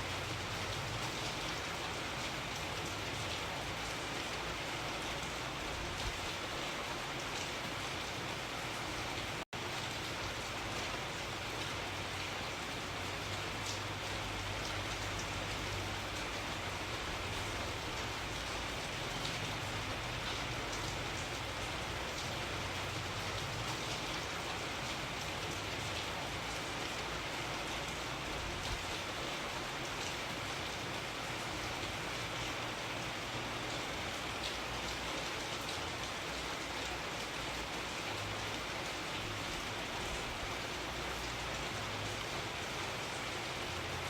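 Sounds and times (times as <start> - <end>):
rain pattering on a surface: 0.0 - 44.0.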